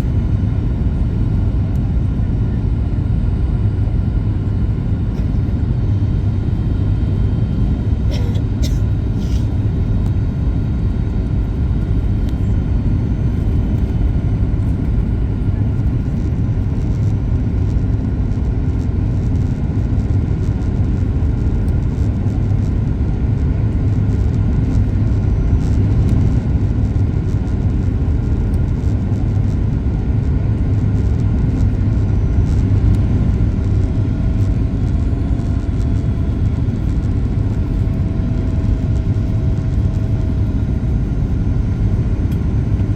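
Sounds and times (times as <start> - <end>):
faint thin whine: 0.0 - 42.9
jet engines rumbling: 0.0 - 42.9.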